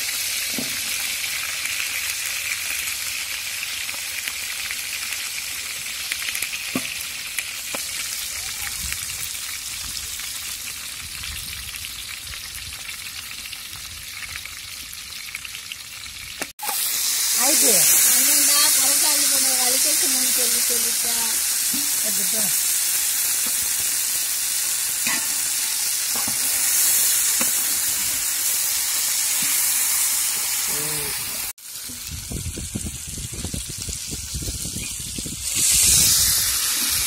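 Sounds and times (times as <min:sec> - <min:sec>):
fish frying in oil: 0:00.0 - 0:37.0.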